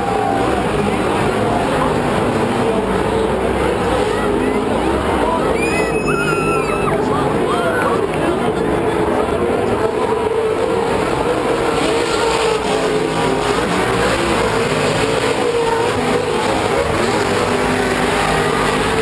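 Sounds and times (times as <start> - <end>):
race truck engines revving: 0.0 - 19.0.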